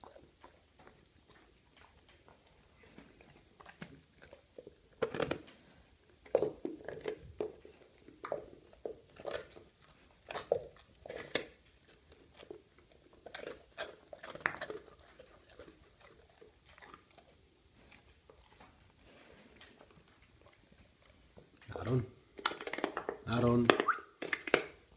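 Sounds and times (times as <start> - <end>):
dog crunching bread crust: 0.0 - 24.9.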